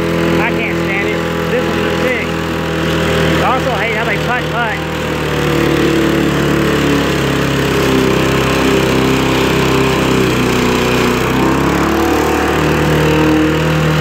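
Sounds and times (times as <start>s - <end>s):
lawnmower engine running: 0.0s - 14.0s.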